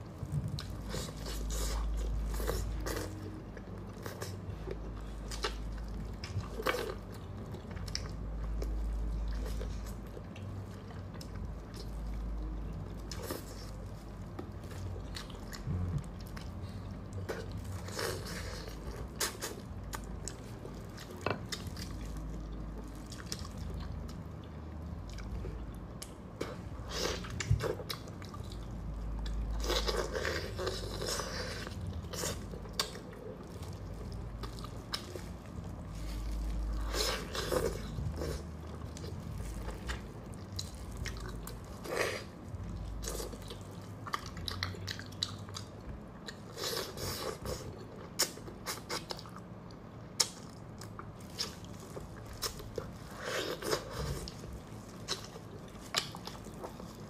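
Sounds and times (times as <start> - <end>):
wet chewing of meat: 0.2 - 57.0.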